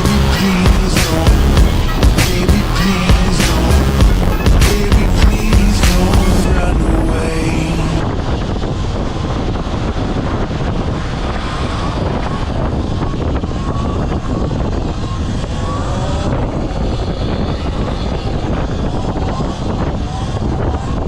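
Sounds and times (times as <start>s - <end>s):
wind over microphone: 0.0s - 21.0s.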